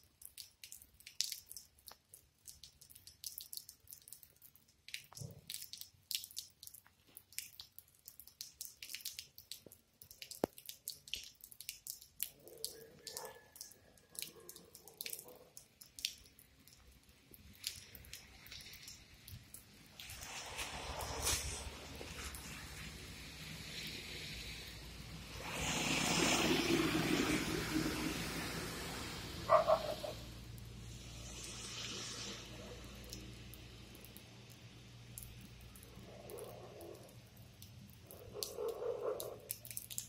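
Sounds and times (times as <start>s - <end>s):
water dripping: 0.0s - 40.0s.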